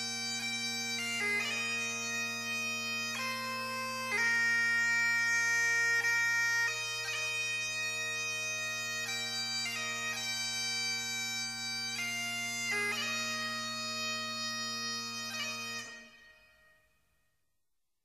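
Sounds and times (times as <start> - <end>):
bagpipe music: 0.0 - 17.0.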